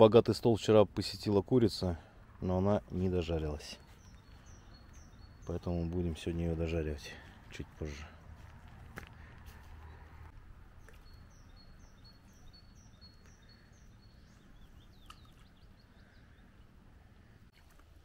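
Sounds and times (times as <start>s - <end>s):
low outdoor rumble: 0.0s - 18.0s
songbird singing: 0.0s - 18.0s.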